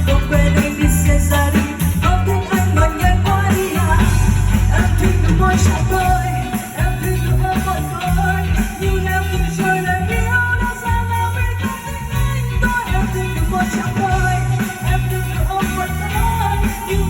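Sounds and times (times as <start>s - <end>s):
bass line: 0.0s - 17.0s
drums: 0.0s - 17.0s
live band playing pop music: 0.0s - 17.0s.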